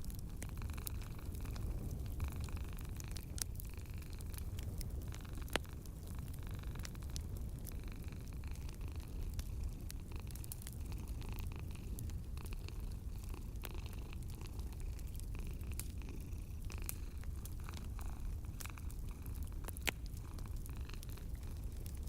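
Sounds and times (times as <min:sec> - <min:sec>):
cat purring: 0:00.0 - 0:22.0
wood fire crackling and popping: 0:00.0 - 0:22.0.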